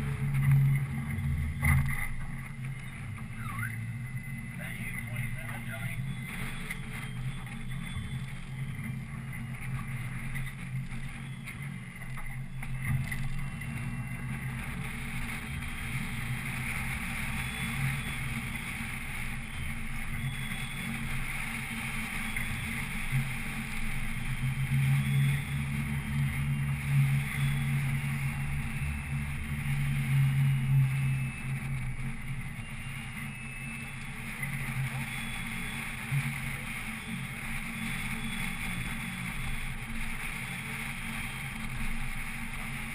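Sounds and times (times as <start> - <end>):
boat motor running: 0.0 - 42.9.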